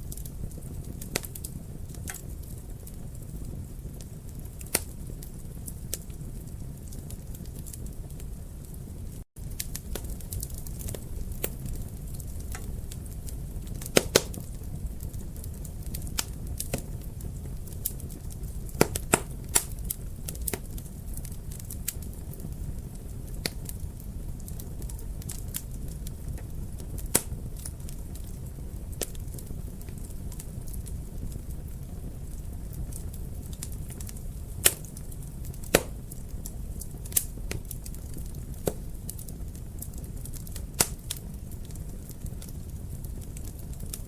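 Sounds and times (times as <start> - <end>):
low steady fire rumble: 0.0 - 44.0
wood fire crackling and popping: 0.0 - 44.0.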